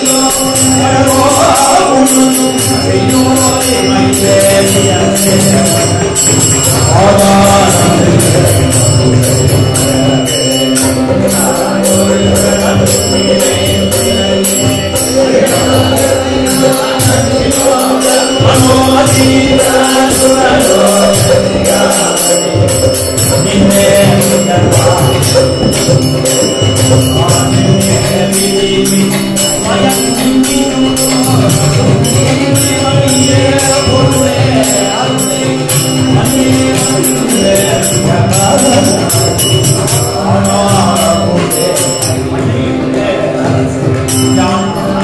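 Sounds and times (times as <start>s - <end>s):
hand drums: 0.0s - 45.0s
harmonium holding steady notes: 0.0s - 45.0s
men singing devotional song: 0.0s - 45.0s
small hand cymbals struck: 0.0s - 45.0s.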